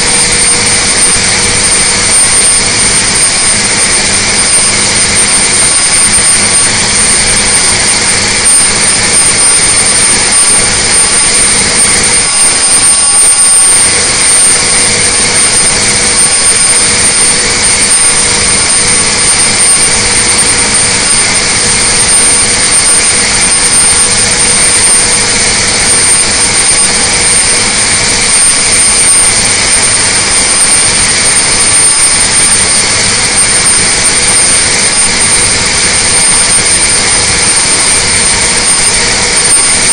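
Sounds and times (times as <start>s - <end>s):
diesel engine at full throttle: 0.0s - 39.9s
high-pitched whines: 0.0s - 39.9s.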